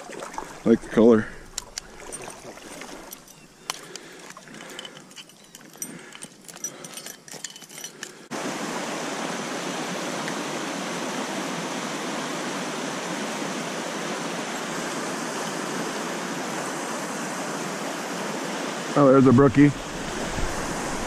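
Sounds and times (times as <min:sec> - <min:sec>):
stream water rushing: 0:00.0 - 0:06.6, 0:07.2 - 0:21.0.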